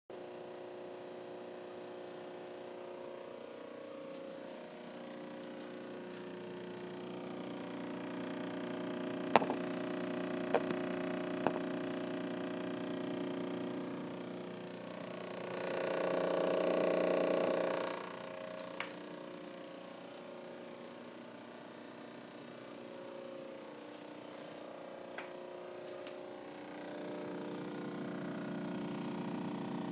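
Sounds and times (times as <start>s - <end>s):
refrigerator humming: 0.2s - 29.9s.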